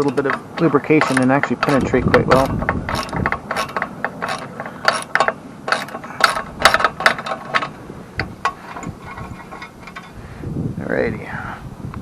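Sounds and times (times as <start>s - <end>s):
ratchet wrench clicking: 0.0s - 10.2s.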